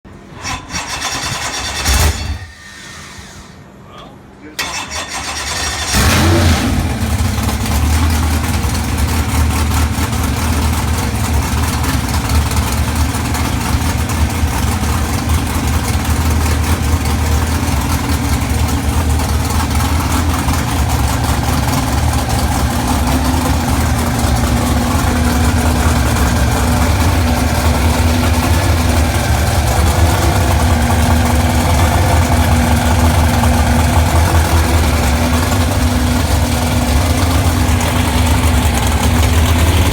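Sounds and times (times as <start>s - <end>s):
car engine idling: 5.0s - 39.9s.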